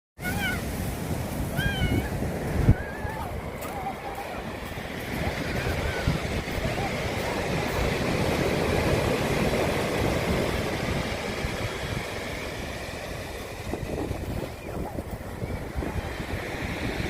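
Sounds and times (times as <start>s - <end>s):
heavy surf breaking: 0.2s - 17.0s
wind rumbling on microphone: 0.2s - 17.0s.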